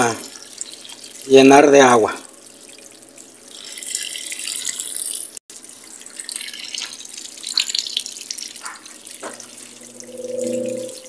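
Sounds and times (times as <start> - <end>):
water pouring into washing machine: 0.0 - 11.0.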